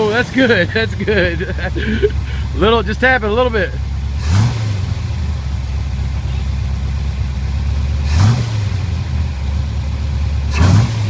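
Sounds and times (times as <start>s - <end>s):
vee eight engine idling: 0.0s - 10.6s.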